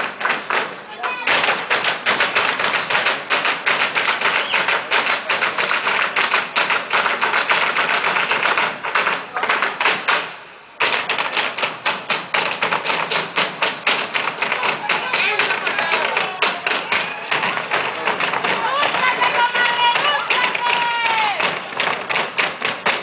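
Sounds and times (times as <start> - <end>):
shoes stamping on stage floor: 0.0 - 23.0.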